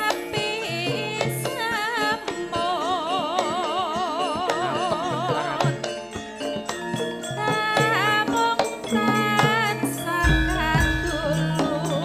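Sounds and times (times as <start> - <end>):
woman singing with wide vibrato: 0.0 - 6.0, 7.2 - 12.0
gamelan accompaniment: 0.0 - 12.0.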